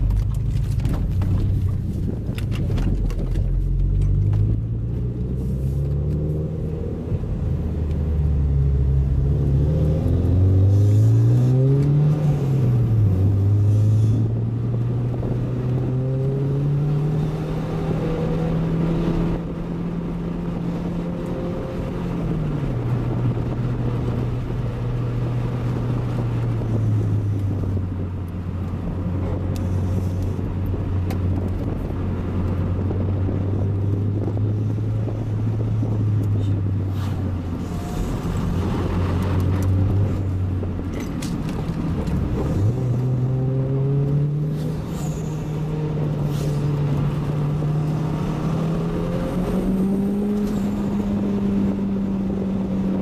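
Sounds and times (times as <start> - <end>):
road noise: 0.0 - 53.0
turbocharged car engine: 0.0 - 53.0.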